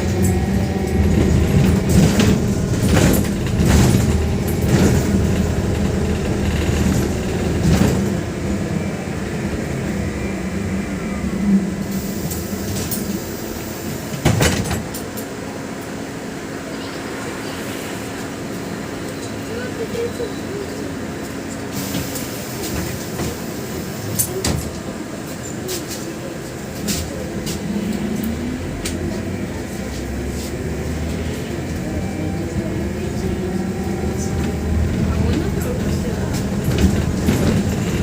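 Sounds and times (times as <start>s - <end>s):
trolleybus rumbling: 0.0s - 38.0s.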